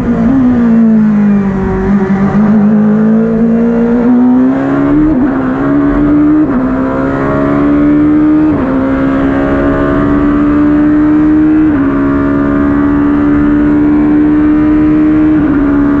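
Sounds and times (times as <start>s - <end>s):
racing engine accelerating: 0.0s - 16.0s.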